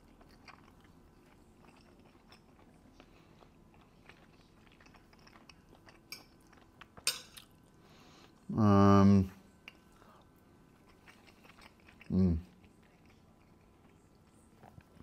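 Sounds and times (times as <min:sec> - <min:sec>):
quiet chewing: 0:00.0 - 0:08.5, 0:09.4 - 0:15.0.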